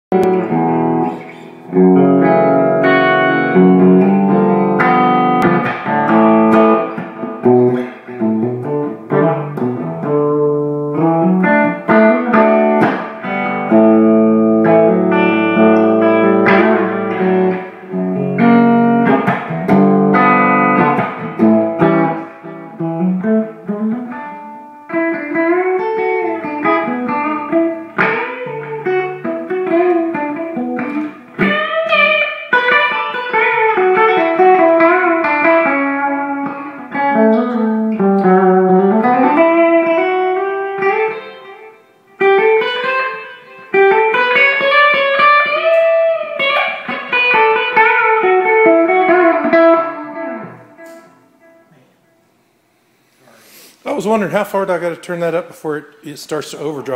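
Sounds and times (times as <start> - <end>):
electric guitar playing: 0.1 - 56.9.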